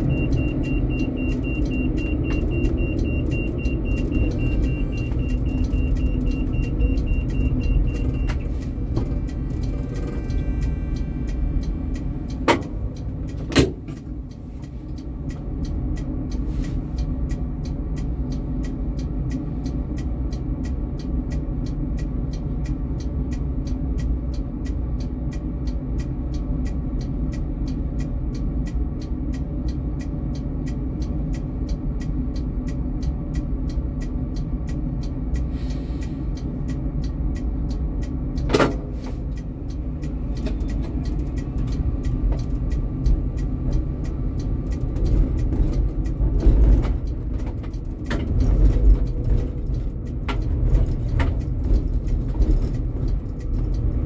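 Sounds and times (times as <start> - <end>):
quick regular ticking: 0.0 - 54.0
tram rumbling: 0.0 - 54.0.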